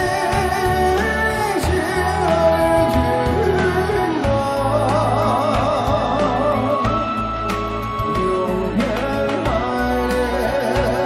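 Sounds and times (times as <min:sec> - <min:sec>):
band with bass and drums: 0:00.0 - 0:11.0
man singing into a microphone: 0:00.0 - 0:11.0.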